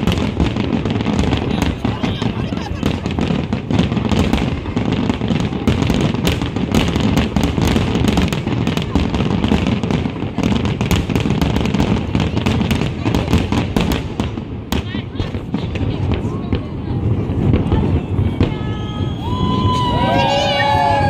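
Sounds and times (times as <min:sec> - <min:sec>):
fireworks booming: 0:00.0 - 0:21.0
fireworks crackling: 0:00.0 - 0:21.0.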